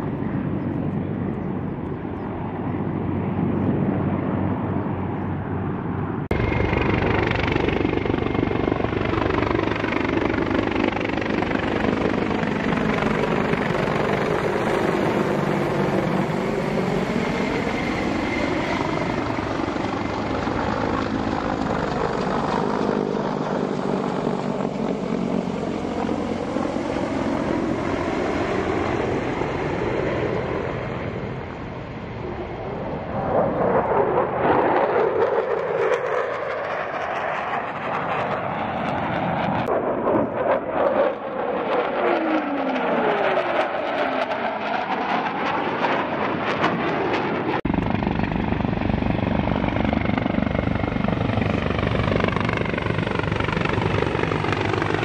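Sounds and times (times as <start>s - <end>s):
helicopter flying past: 0.0s - 55.0s.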